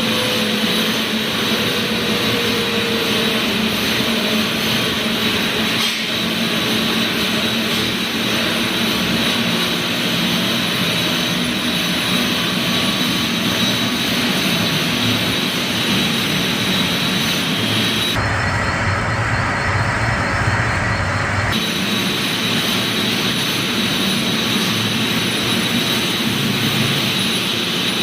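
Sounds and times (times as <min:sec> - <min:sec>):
machinery running with high whine: 0:00.0 - 0:28.0.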